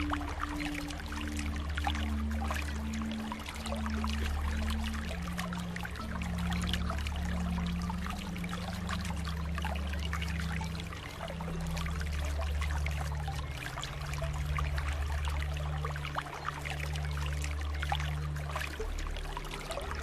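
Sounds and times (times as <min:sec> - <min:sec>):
water flowing and trickling: 0:00.0 - 0:20.0.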